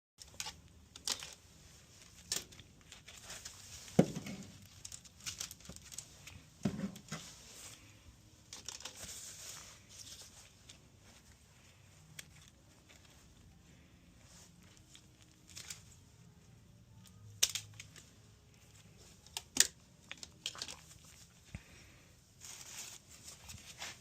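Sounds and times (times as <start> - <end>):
handling clicks and rustling: 0.2 - 21.7.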